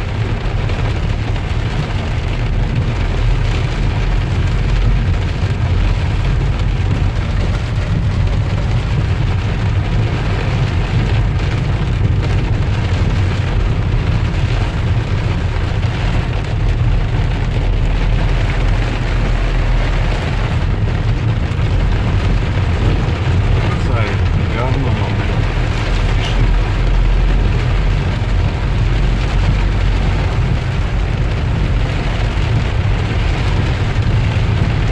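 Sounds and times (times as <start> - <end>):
heavy rain on a car: 0.0 - 34.9
road and tyre rumble: 0.0 - 34.9.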